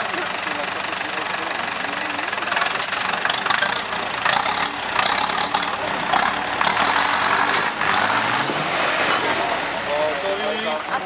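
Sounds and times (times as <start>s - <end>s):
diesel engines under load: 0.0s - 11.0s.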